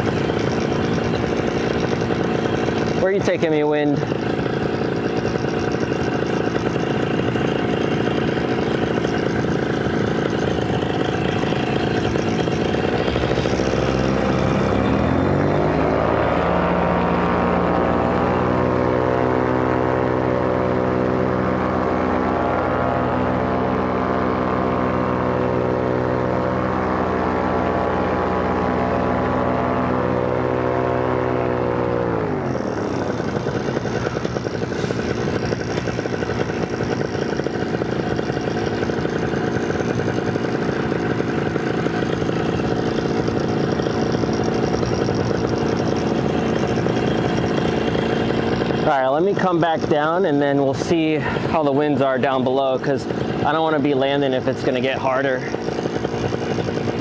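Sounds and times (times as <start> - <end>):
paramotor engine running: 0.0 - 57.0.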